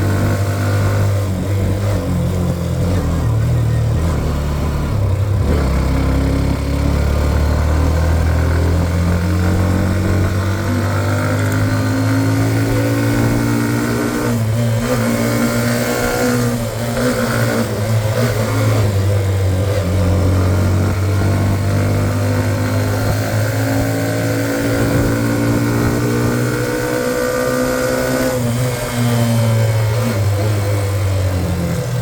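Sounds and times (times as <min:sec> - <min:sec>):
motorcycle engine under load: 0:00.0 - 0:32.0.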